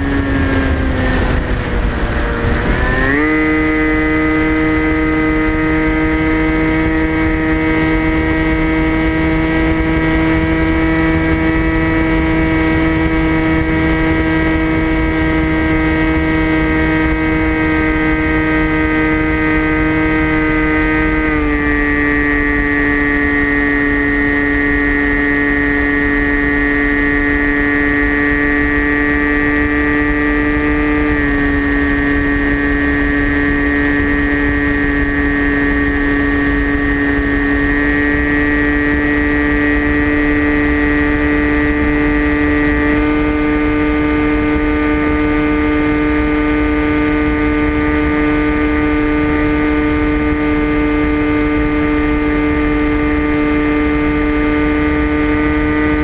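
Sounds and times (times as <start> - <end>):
electric motor and propeller whining: 0.0 - 56.0
wind rush on microphone: 0.0 - 56.0.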